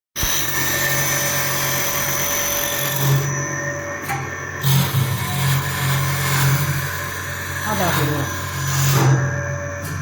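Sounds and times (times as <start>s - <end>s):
cutter shaving spinning wood: 0.2s - 3.8s, 4.5s - 9.8s
wood lathe motor hum: 0.2s - 10.0s.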